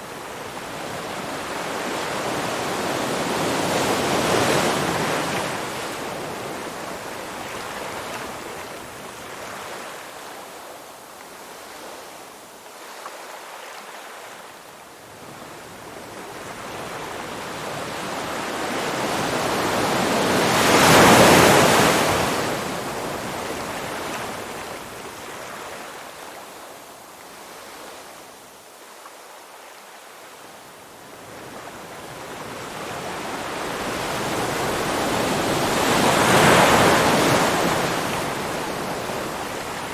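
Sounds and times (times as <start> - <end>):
ocean waves washing ashore: 0.0 - 28.4, 30.4 - 39.9.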